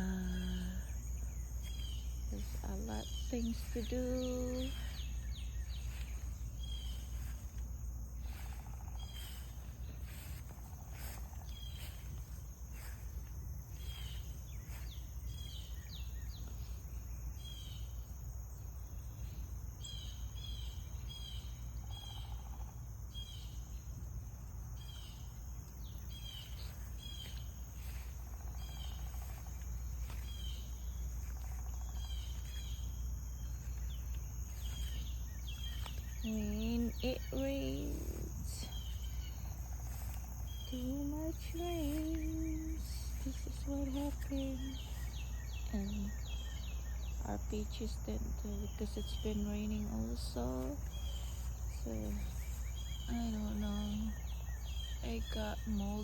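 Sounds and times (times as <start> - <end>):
high-pitched insect drone: 0.0 - 17.9, 25.9 - 56.0
small birds chirping: 0.0 - 56.0.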